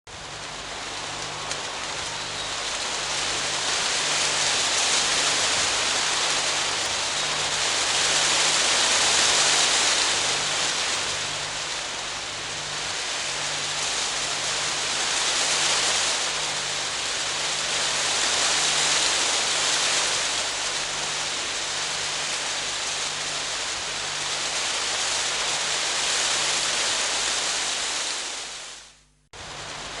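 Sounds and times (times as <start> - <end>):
rain pattering on tent fabric: 0.1 - 30.0.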